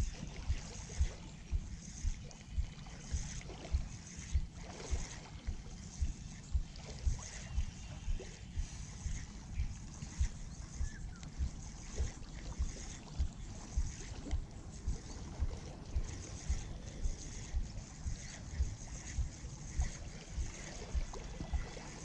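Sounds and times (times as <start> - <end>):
fishing reel cranking: 0.0 - 22.0.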